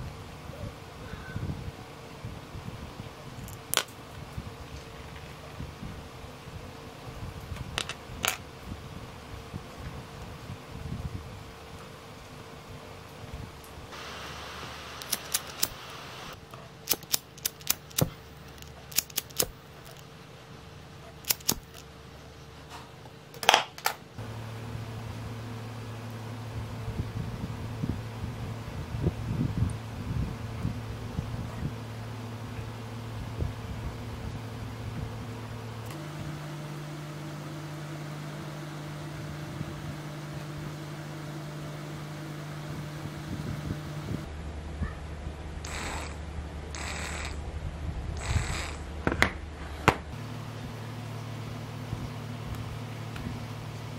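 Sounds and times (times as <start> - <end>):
constant hiss: 0.0 - 53.9
faint steady hum: 0.0 - 53.9.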